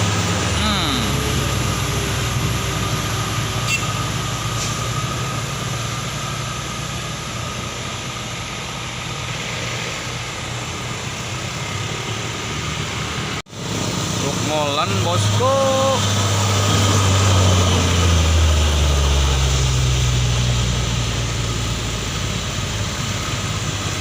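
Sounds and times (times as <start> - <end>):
diesel truck engine drone: 0.0 - 24.0
road and tyre noise: 0.0 - 24.0.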